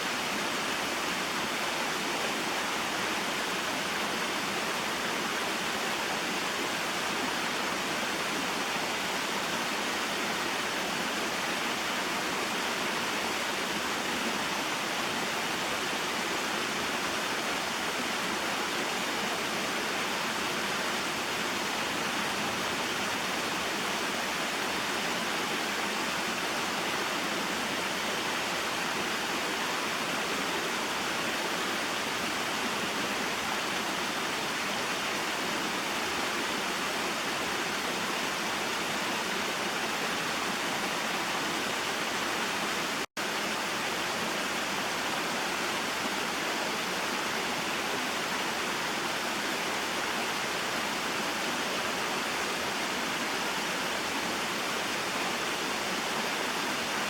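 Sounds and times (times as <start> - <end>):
waterfall and stream flowing: 0.0 - 57.0.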